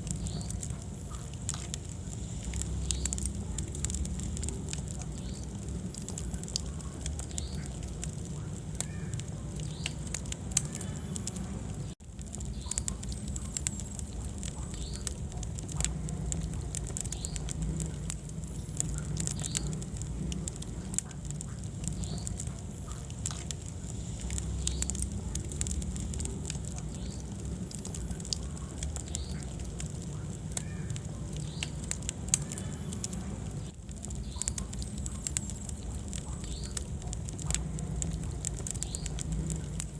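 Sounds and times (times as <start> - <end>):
burning logs popping and snapping: 0.0 - 39.9
fire flames rumbling: 0.0 - 39.9.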